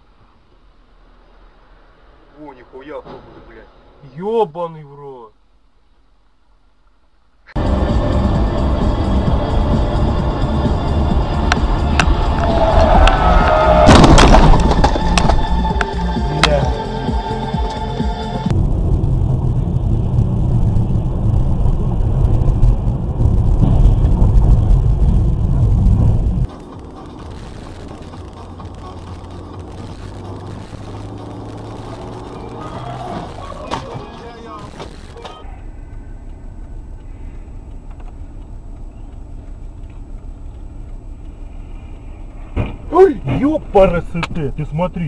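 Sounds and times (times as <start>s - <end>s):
car engine and tyres rumbling: 0.0s - 45.0s
road noise: 0.0s - 45.0s.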